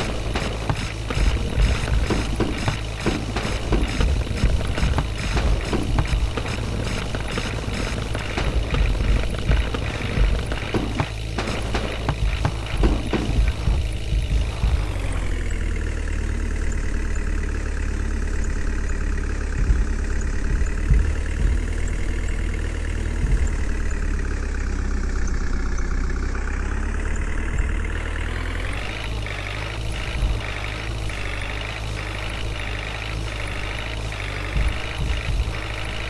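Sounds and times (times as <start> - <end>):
heavy vehicle engine running: 0.0 - 36.0.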